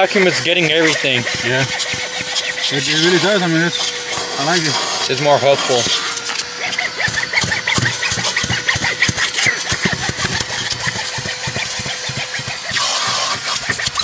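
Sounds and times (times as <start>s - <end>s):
hose nozzle scraping fabric seat: 0.0s - 14.0s
vacuum cleaner whining: 0.0s - 14.0s.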